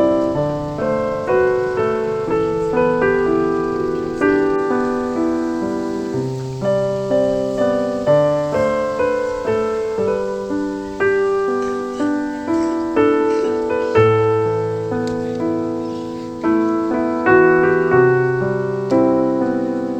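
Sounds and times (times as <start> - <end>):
slow piano music: 0.0 - 19.9.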